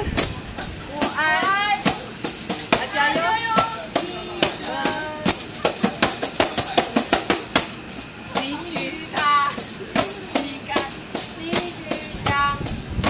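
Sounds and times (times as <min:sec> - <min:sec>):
tambourine jingling: 0:00.0 - 0:13.0.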